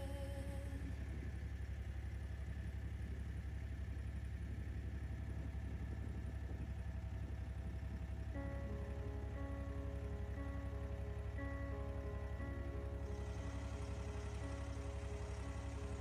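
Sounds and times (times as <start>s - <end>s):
boat diesel engine throbbing: 0.0s - 16.0s.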